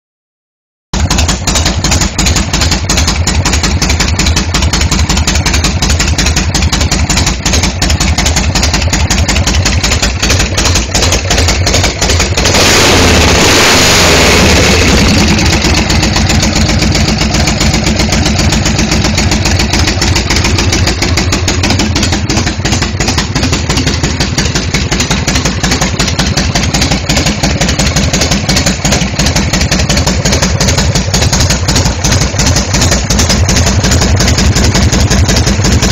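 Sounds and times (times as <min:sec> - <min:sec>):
motorcycle engine idling and revving: 0:01.0 - 0:35.9.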